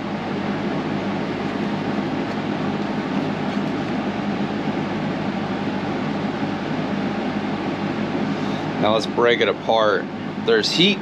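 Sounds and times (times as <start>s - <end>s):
fan running: 0.0s - 11.0s.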